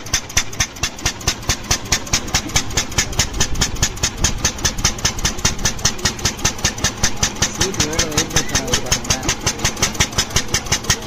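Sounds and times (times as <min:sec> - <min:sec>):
single-cylinder engine idling: 0:00.0 - 0:11.0.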